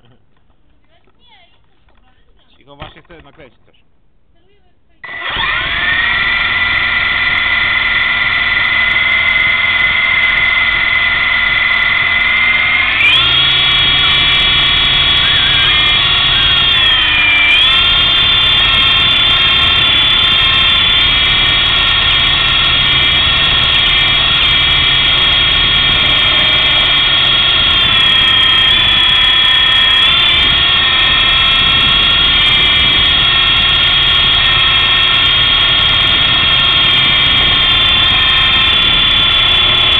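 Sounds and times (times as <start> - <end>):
helicopter motor and rotor whine: 5.1 - 39.9.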